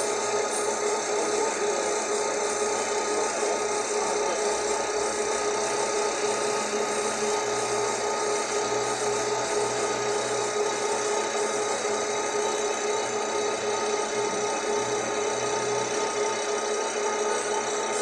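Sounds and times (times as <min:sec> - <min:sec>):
workshop machine whining: 0:00.0 - 0:18.0.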